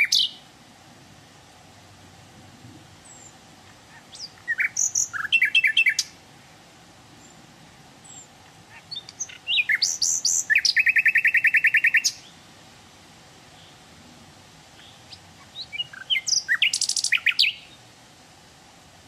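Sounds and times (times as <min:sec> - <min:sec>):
songbird singing: 0:00.0 - 0:18.6.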